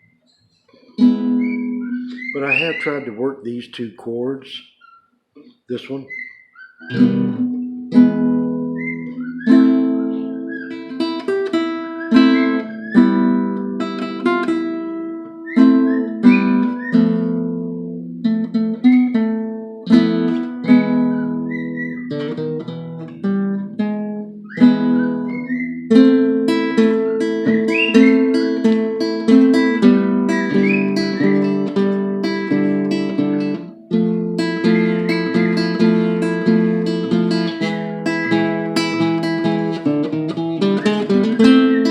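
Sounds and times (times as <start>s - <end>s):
bird whistling: 0.0s - 3.2s, 4.6s - 7.4s, 8.5s - 17.5s, 20.0s - 22.6s, 24.2s - 41.9s
acoustic guitar chords strummed: 6.9s - 41.9s.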